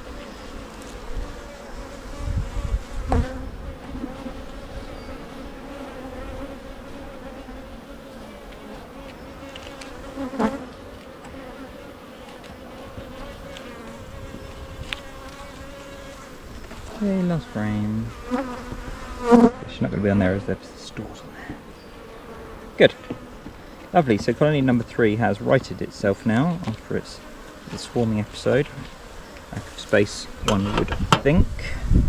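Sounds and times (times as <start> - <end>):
bees buzzing: 0.0 - 32.0.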